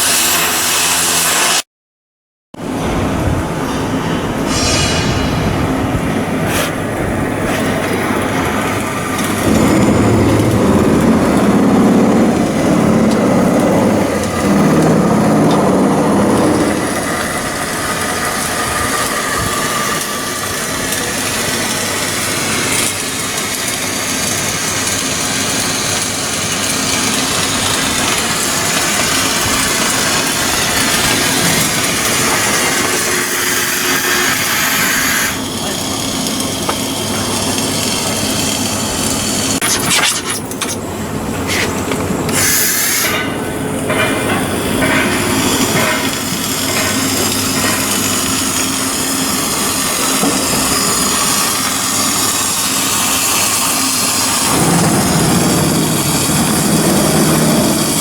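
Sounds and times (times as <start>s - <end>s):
machinery running: 2.6s - 58.0s.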